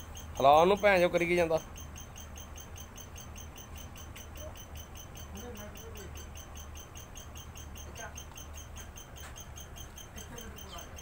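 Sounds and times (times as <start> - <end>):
high-pitched chirping: 0.0 - 11.0
steady low hum: 0.0 - 11.0.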